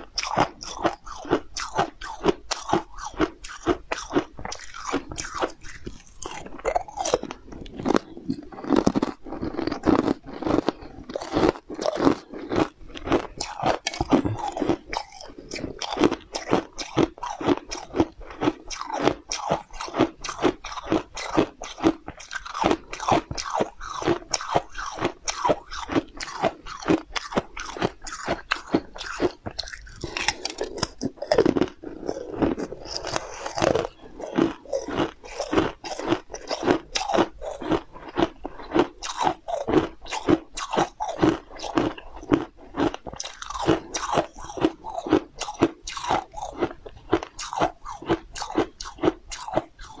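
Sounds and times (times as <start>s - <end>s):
person crunching hard candy: 0.0s - 50.0s.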